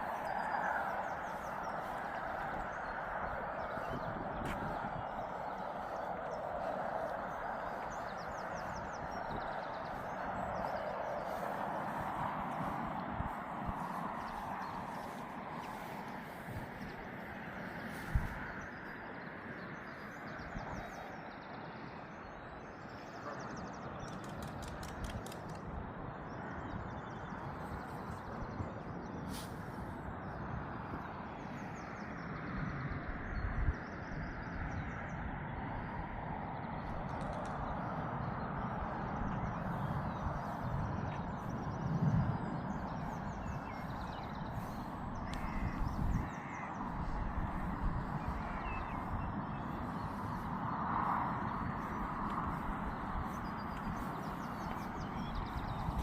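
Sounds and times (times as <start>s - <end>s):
birds chirping: 0.0s - 35.9s, 36.5s - 56.0s
wind or distant traffic rush: 0.0s - 56.0s.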